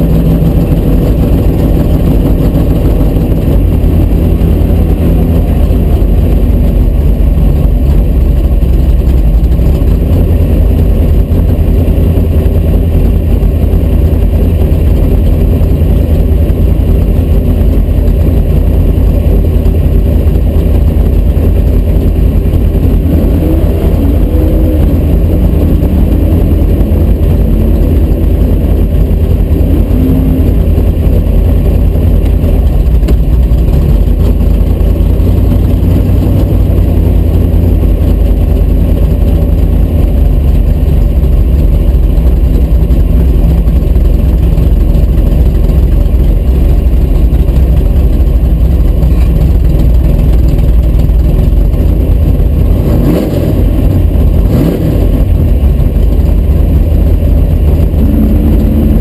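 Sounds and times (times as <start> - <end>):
car engine idling: 0.0 - 59.0
engine revving: 0.0 - 59.0.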